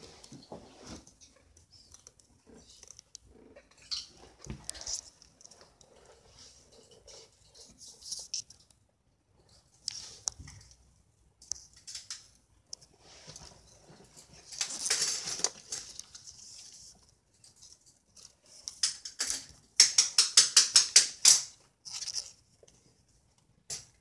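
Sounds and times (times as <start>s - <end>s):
rustling handling noise: 0.0s - 19.6s, 21.5s - 24.0s.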